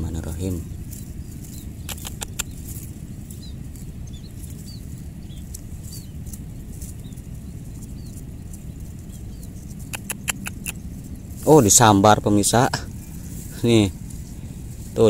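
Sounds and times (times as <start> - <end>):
low outdoor rumble: 0.0 - 15.0
small bird chirping: 0.0 - 15.0.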